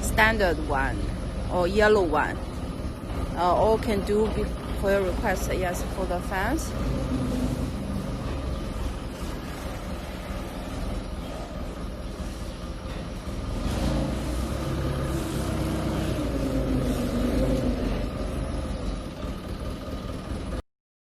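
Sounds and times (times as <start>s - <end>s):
machinery motor rumble: 0.0s - 20.6s.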